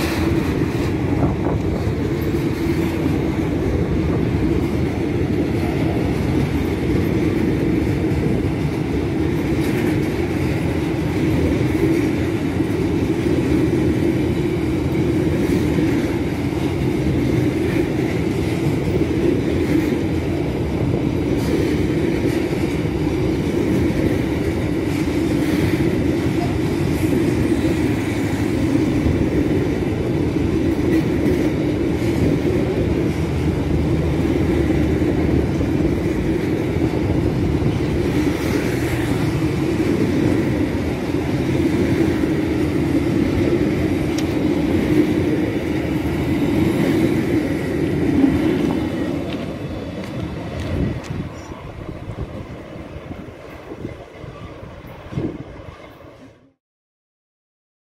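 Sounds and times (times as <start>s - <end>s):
train wheels rumbling on rails: 0.0s - 56.6s.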